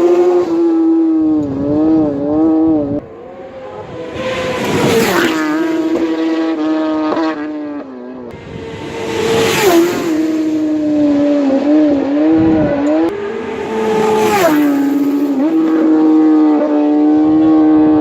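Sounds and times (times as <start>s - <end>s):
racing motorbikes passing at speed: 0.0s - 18.0s.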